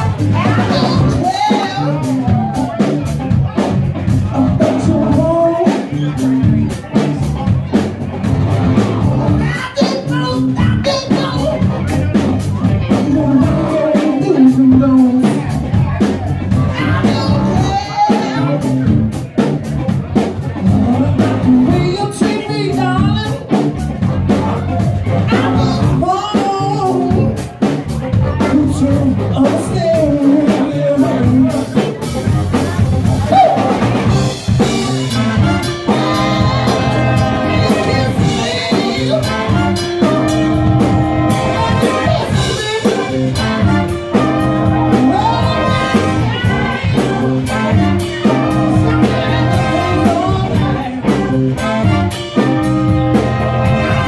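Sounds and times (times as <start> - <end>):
person singing: 0.0 - 7.2, 8.8 - 19.0, 20.6 - 23.7, 24.4 - 54.0
live band playing dance song: 0.0 - 54.0.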